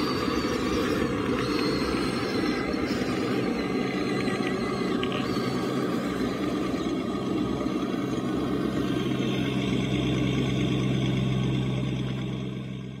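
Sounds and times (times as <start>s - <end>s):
model excavator motor humming: 0.0s - 13.0s.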